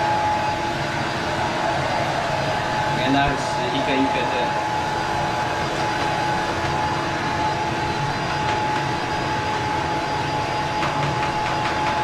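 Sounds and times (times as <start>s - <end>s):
hair dryer and fan heater blowing: 0.0s - 12.0s.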